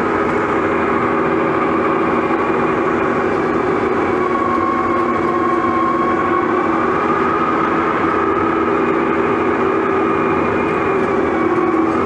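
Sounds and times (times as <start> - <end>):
diesel engine running: 0.0 - 12.0
high whine: 0.0 - 12.0.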